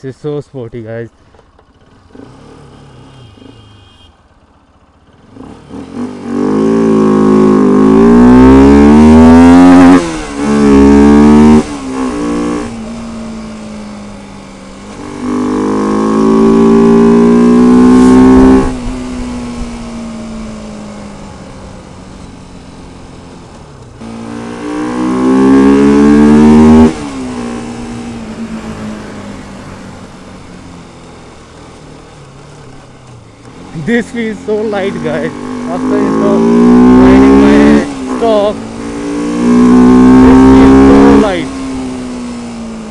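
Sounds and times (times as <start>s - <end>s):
motorcycle engine revving: 1.3s - 42.9s.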